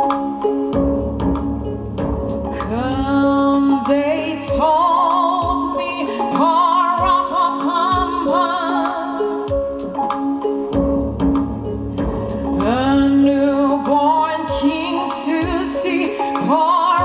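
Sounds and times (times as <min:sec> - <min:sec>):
sustained backing chords: 0:00.0 - 0:16.8.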